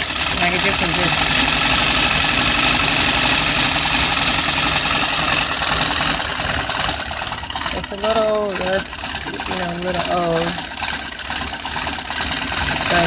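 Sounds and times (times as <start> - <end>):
sewing machine rattling: 0.0 - 13.0.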